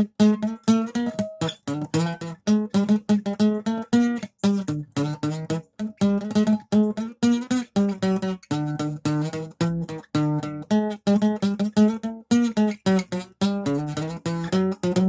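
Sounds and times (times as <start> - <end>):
acoustic guitar choppy strumming: 0.0 - 15.0.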